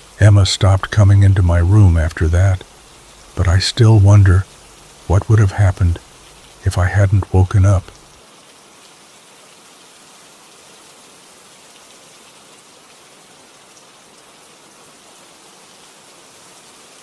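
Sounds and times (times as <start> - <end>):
rainfall hiss: 0.0 - 17.0.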